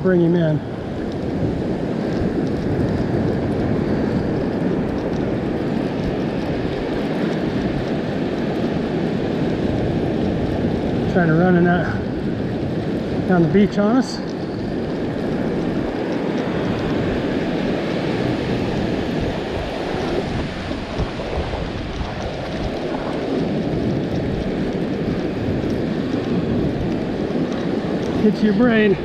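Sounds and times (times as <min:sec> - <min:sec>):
breaking surf: 0:00.0 - 0:29.0
wind buffeting microphone: 0:00.0 - 0:29.0.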